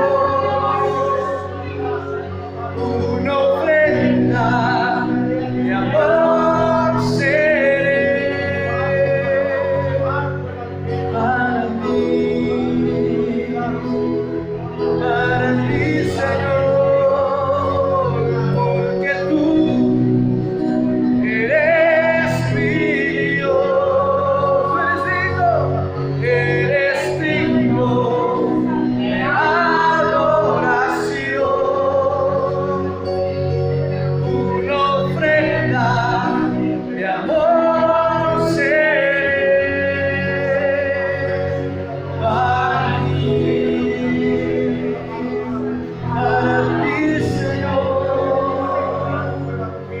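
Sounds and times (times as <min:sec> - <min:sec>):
low instrumental accompaniment: 0:00.0 - 0:50.0
worship singing with vibrato: 0:00.0 - 0:50.0.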